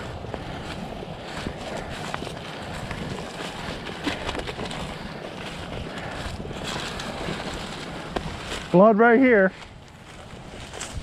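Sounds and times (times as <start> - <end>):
dry stalks rustling and crackling: 0.0 - 11.0
wind buffeting microphone: 0.0 - 11.0.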